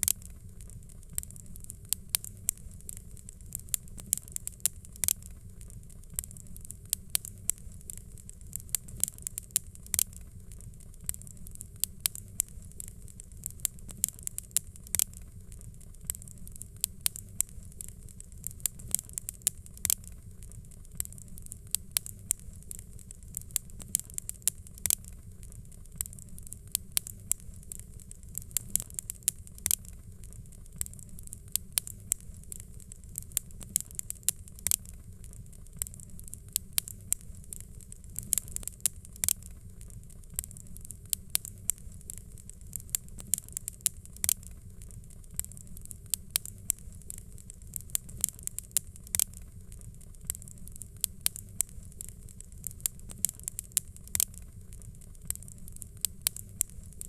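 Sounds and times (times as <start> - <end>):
fire crackling and popping: 0.0 - 57.0
low rumble of fire: 0.0 - 57.0.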